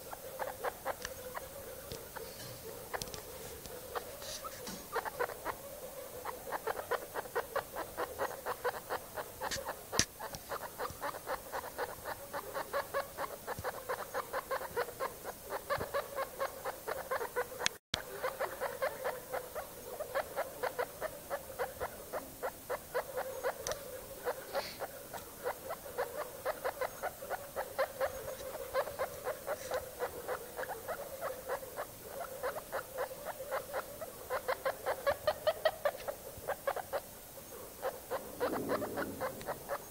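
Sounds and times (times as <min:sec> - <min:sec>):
guinea pigs calling: 0:00.0 - 0:37.1, 0:37.8 - 0:39.9.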